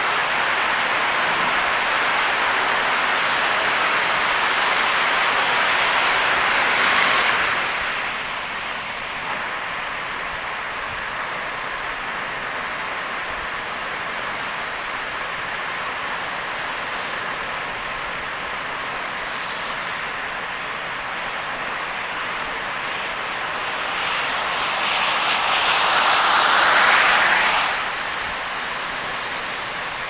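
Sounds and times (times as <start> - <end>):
heavy rain and tyre spray: 0.0 - 30.0.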